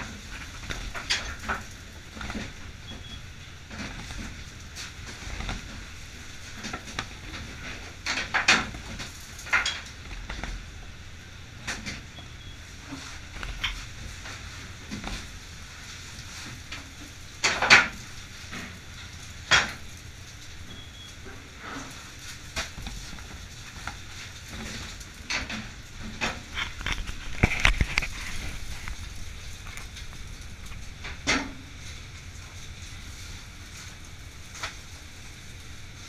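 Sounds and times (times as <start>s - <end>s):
low machinery hum: 0.0s - 36.0s.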